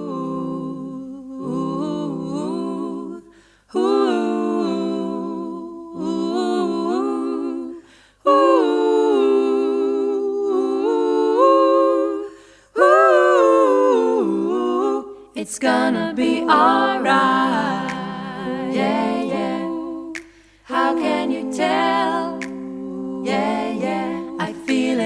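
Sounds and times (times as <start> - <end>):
person humming a cappella: 0.0 - 25.0.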